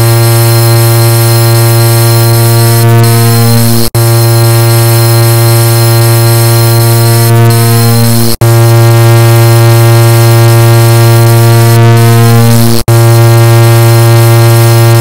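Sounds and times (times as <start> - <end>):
car horn blaring: 0.0 - 15.0.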